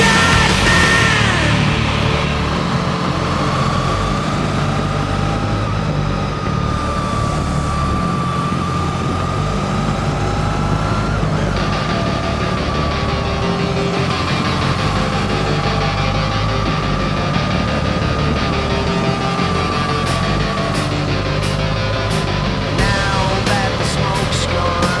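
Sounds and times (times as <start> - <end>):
steady high whine: 0.0 - 25.0.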